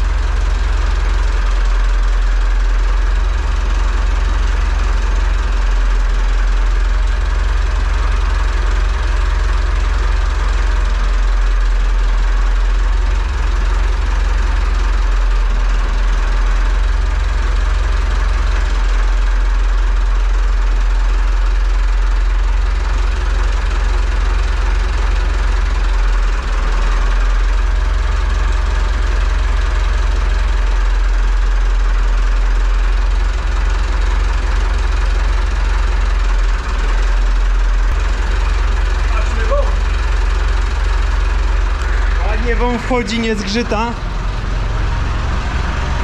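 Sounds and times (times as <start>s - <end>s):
tractor diesel engine idling: 0.0s - 46.0s.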